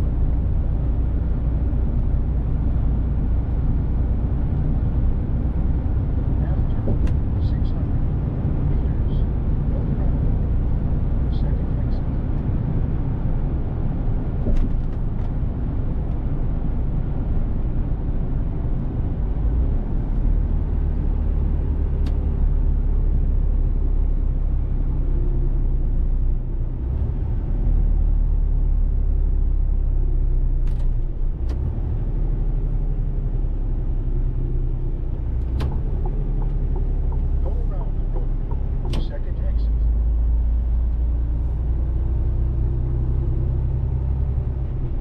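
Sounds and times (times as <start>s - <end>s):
truck diesel engine droning: 0.0s - 45.0s.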